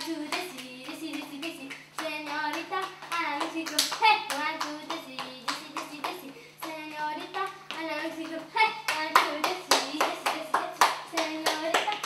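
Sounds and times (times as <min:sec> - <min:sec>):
rhythmic hand clapping: 0:00.0 - 0:12.0.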